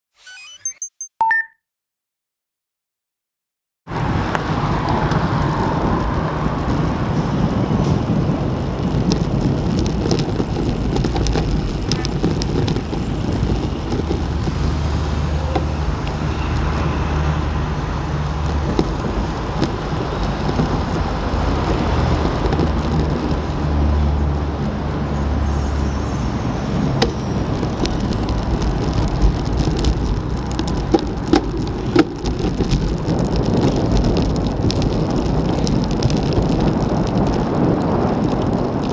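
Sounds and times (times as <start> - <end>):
bicycle road noise: 3.9 - 38.9
motor traffic: 3.9 - 38.9
wind rush: 3.9 - 38.9.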